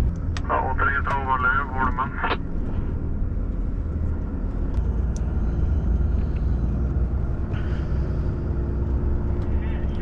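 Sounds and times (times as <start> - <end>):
road noise: 0.0 - 10.0
truck engine droning: 0.0 - 10.0.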